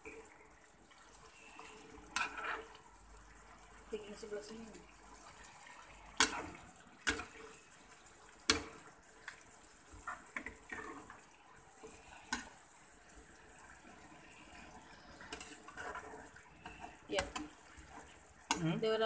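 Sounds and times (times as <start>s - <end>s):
ladle stirring sauce: 0.0s - 3.9s, 4.8s - 18.6s
sizzling in a frying pan: 0.0s - 19.0s.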